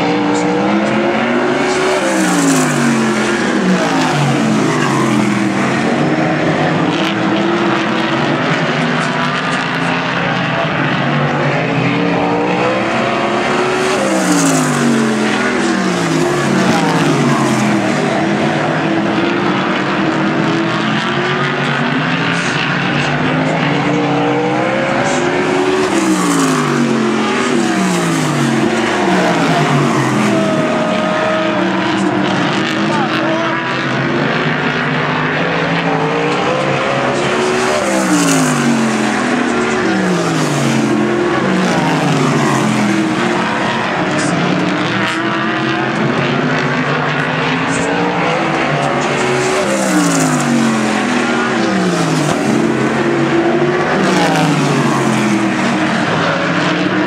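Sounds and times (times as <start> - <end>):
race car engines at full throttle: 0.0 - 57.0.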